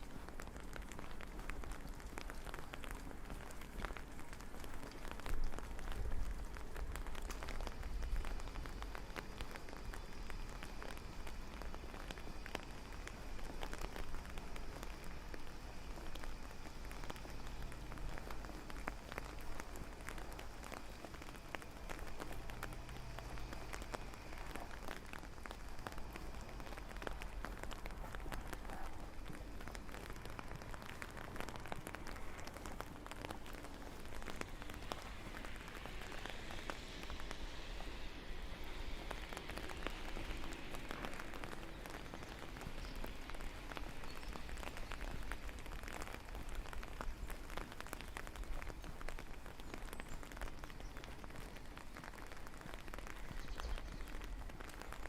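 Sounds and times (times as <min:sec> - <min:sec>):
rain pattering on hard surfaces: 0:00.0 - 0:55.0.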